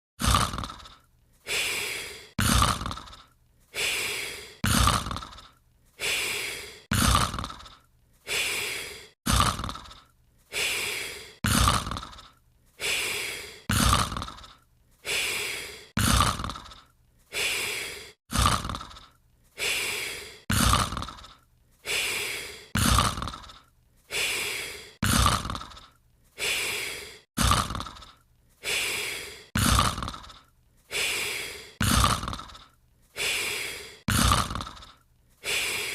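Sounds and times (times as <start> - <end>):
cartoon snoring: 0.2 - 35.9.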